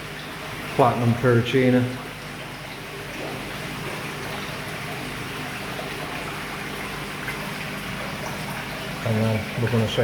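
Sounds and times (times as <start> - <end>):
water trickling into pool: 0.0 - 10.0.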